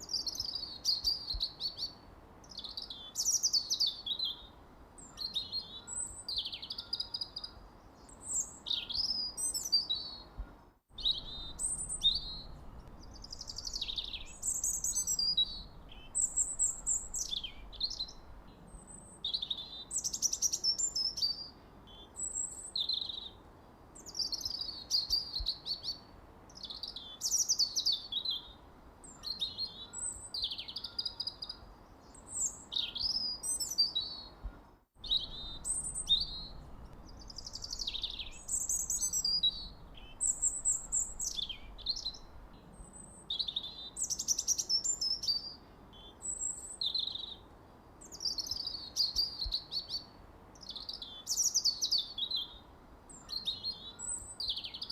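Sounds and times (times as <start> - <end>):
birds chirping: 0.0 - 23.4, 26.6 - 47.4.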